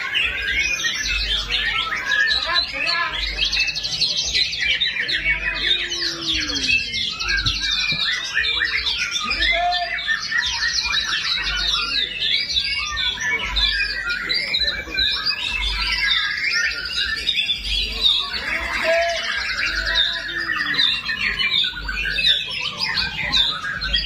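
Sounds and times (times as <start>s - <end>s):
chorus of songbirds: 0.0s - 24.0s
songbird singing trills: 0.0s - 24.0s.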